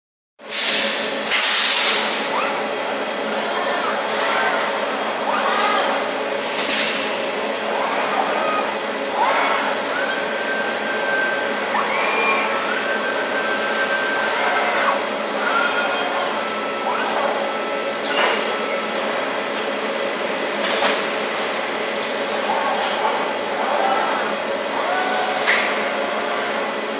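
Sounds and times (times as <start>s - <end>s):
factory machinery din: 0.4s - 26.9s.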